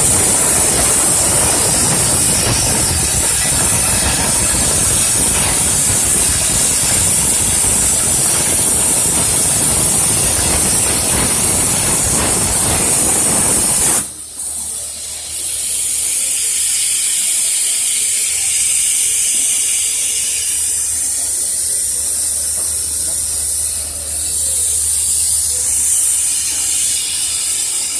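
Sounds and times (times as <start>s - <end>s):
cutting torch hissing: 0.0s - 27.9s.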